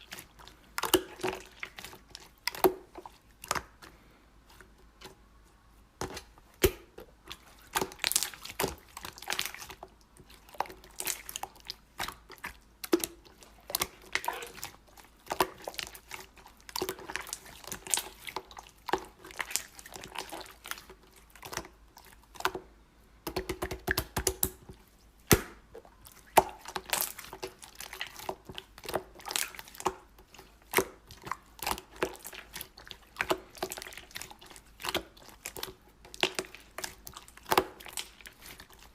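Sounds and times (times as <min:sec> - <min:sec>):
hands squeezing sticky slime: 0:00.0 - 0:05.2, 0:06.0 - 0:38.9.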